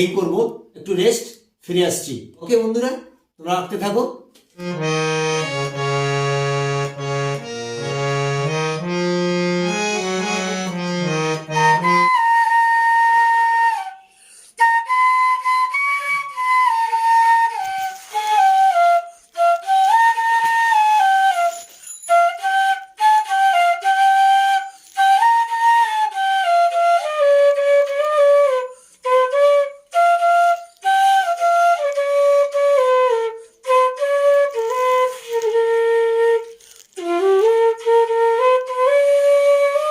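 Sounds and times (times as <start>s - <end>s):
solo flute melody: 4.6s - 39.9s.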